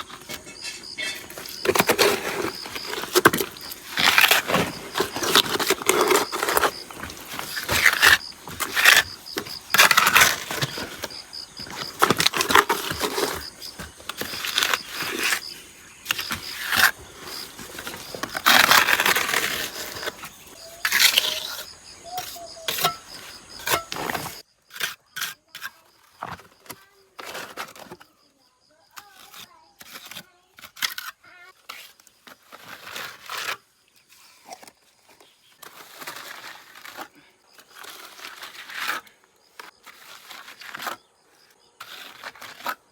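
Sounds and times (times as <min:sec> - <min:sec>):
bricks and mortar scraping and knocking: 0:00.0 - 0:28.2, 0:29.0 - 0:33.8, 0:34.4 - 0:42.9.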